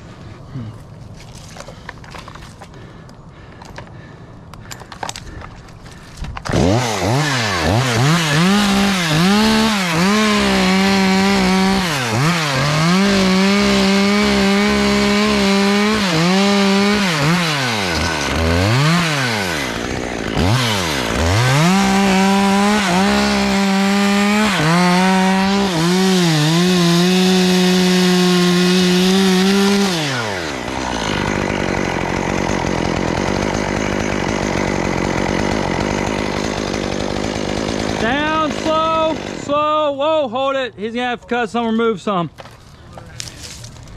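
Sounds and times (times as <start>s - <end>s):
chainsaw cutting limbs: 0.0s - 39.9s, 41.8s - 43.9s.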